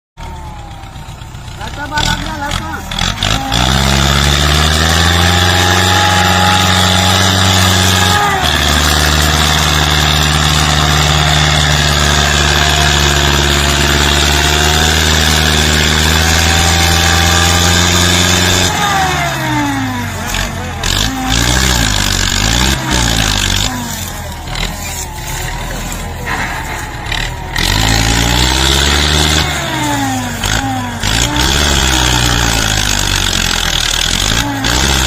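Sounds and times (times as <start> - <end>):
tractor diesel engine revving: 0.2 - 35.0.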